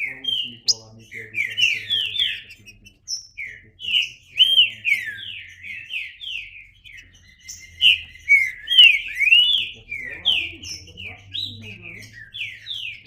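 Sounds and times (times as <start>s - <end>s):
bird singing: 0.0s - 13.0s.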